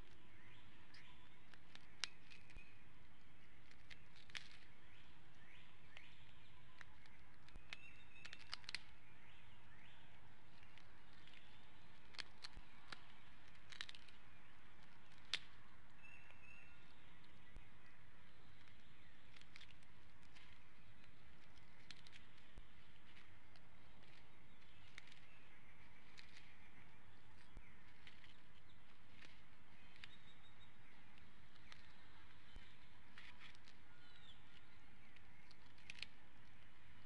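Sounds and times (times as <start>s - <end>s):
faint bird chirps: 0.0s - 37.0s.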